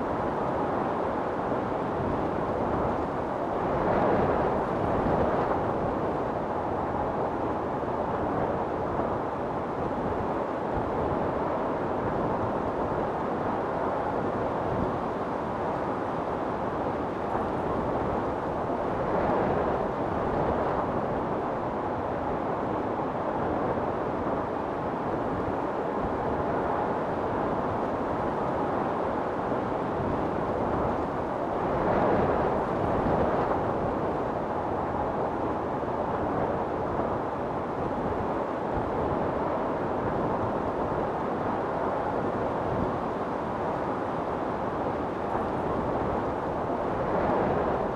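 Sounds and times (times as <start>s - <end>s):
storm wind blowing: 0.0s - 47.9s.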